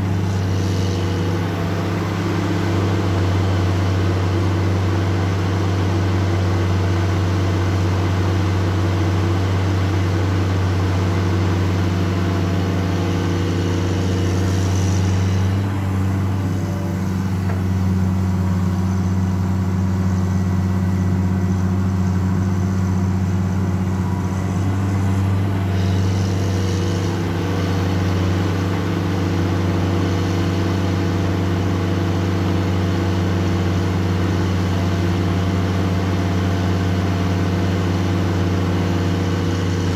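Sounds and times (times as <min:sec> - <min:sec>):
excavator diesel engine humming: 0:00.0 - 0:39.9.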